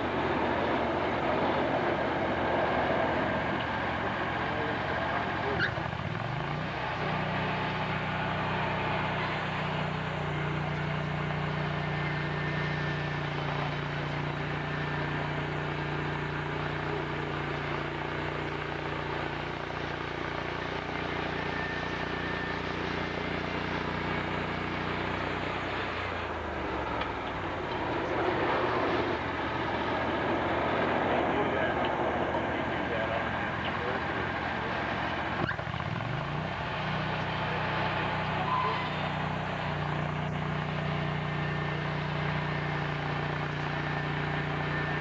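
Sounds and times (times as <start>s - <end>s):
engine revving: 0.0s - 45.0s.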